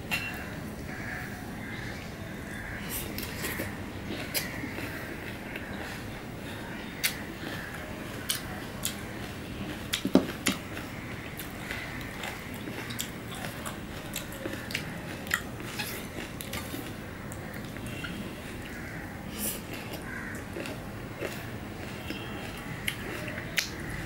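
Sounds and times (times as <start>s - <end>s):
person chewing wetly: 3.0s - 24.0s.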